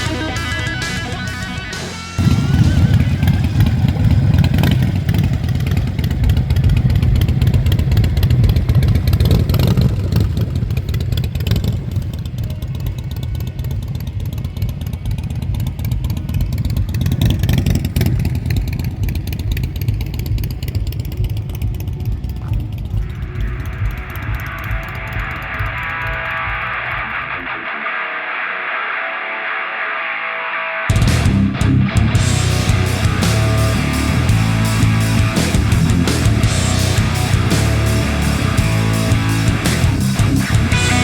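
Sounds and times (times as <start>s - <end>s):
motorcycle engine revving: 0.0s - 27.7s, 30.9s - 41.0s.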